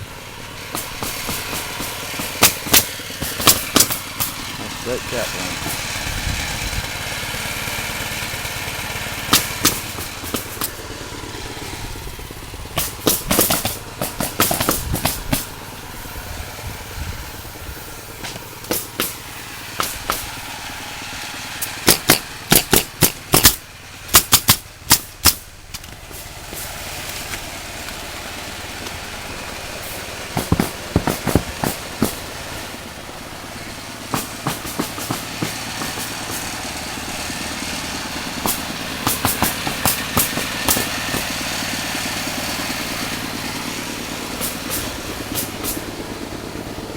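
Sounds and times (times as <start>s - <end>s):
steady engine drone: 0.0s - 46.9s
pneumatic nailer firing: 0.6s - 6.3s, 7.1s - 16.1s, 17.3s - 46.1s.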